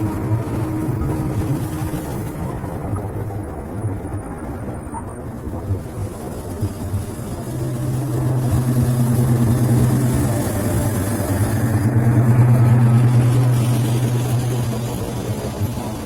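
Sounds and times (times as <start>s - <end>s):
locomotive diesel engine humming: 0.0s - 16.0s.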